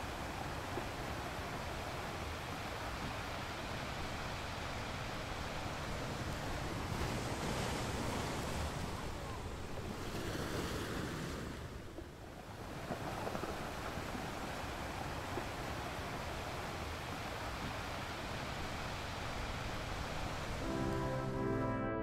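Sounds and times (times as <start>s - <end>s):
water noise: 0.0s - 22.0s.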